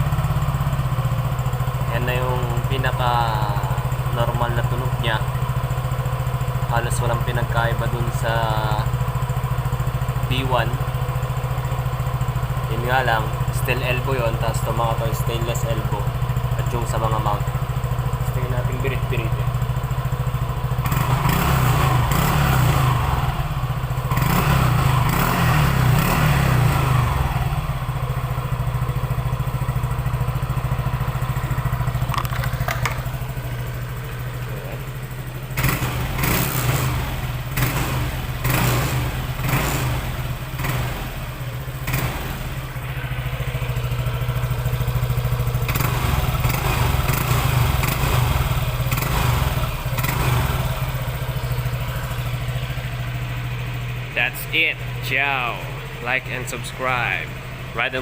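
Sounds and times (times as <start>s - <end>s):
scooter engine revving: 0.0s - 58.0s.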